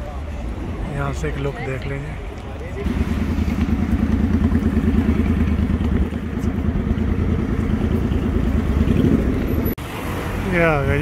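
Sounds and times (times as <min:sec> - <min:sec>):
road traffic: 0:00.0 - 0:11.0
vehicle engine rumbling: 0:00.0 - 0:11.0.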